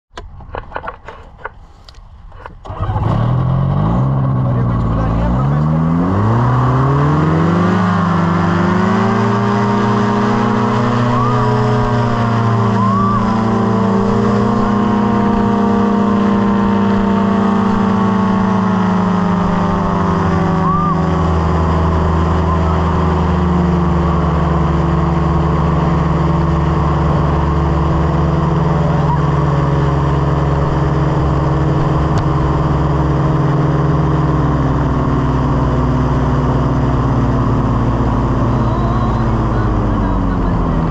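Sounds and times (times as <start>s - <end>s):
propeller aircraft engine revving: 0.1s - 40.9s.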